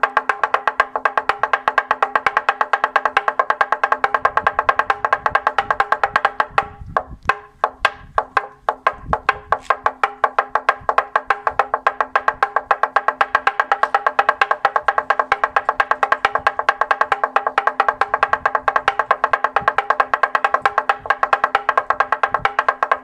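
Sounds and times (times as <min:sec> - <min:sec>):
mallets knocking wooden plank: 0:00.0 - 0:23.0.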